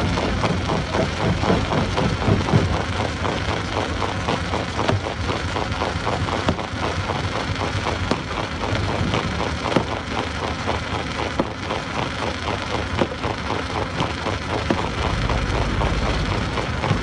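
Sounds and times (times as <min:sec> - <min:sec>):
stone crusher rumble: 0:00.0 - 0:17.0.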